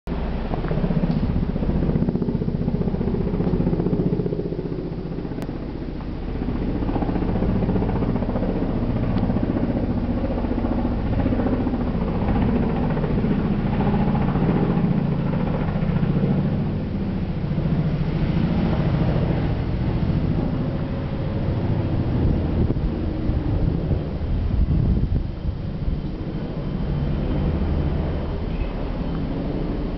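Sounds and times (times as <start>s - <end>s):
helicopter engine whine: 0.1s - 29.9s
helicopter rotor beating: 0.1s - 29.9s.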